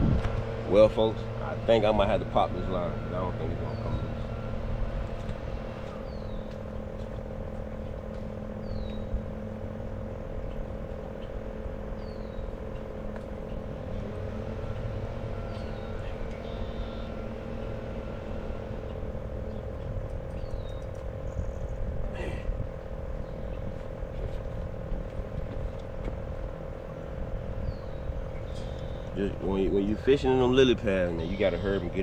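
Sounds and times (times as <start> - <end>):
continuous low hum: 0.0 - 32.0.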